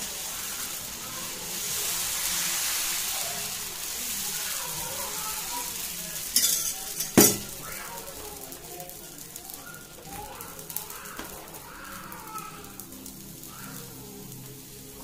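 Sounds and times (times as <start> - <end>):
batter sizzling on hot pan: 0.0 - 15.0.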